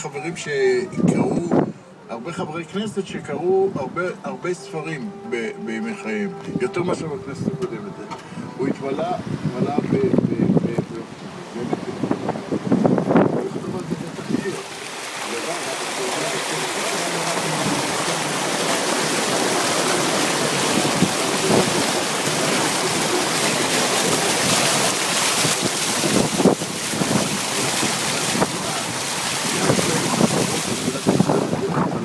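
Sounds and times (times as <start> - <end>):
wind buffeting microphone: 0.7 - 1.8, 6.3 - 32.0
water splashing against a car: 5.9 - 32.0.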